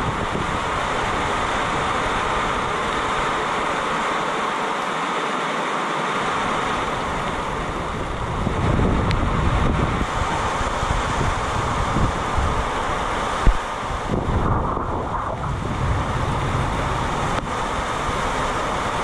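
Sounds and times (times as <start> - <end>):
wind gusts buffeting microphone: 0.0 - 3.8, 6.7 - 19.0
heavy rain pouring: 0.0 - 19.0.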